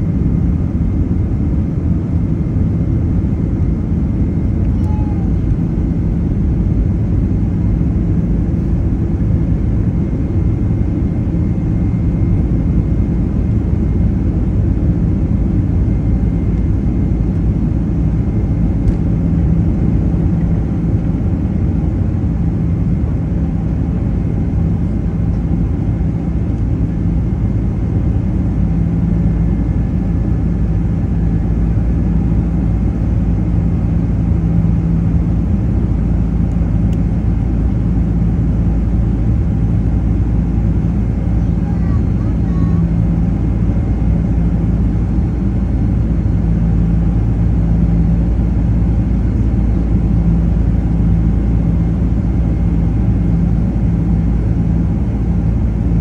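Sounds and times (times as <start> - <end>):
jet engines rumbling at takeoff: 0.0 - 56.0.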